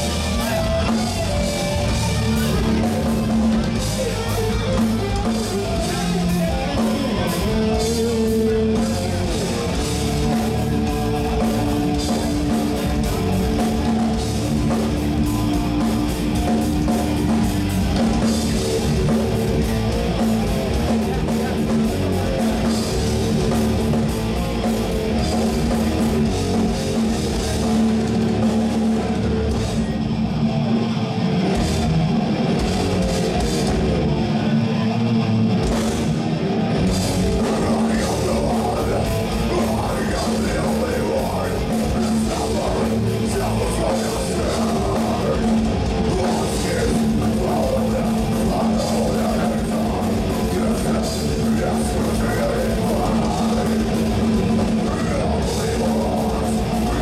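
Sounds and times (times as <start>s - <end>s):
drum kit beating: 0.0s - 30.2s, 31.4s - 34.2s, 35.5s - 57.0s
electric guitar chords: 0.0s - 57.0s.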